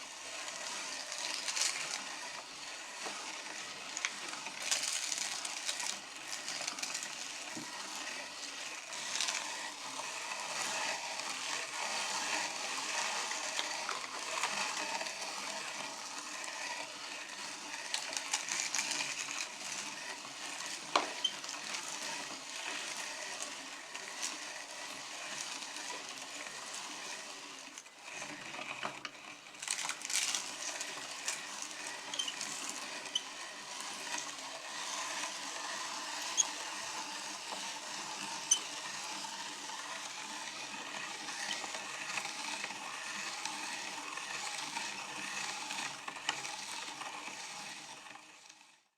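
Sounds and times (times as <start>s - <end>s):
meat grinder crushing chips: 0.0s - 48.9s.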